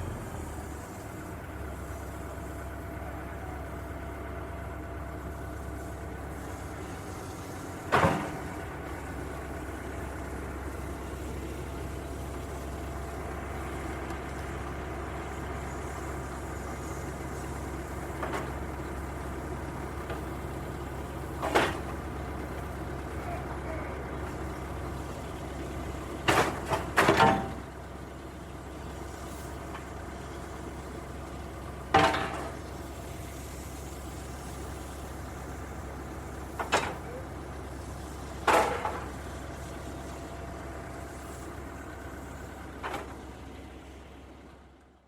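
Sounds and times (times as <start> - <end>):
excavator engine running: 0.0 - 45.0.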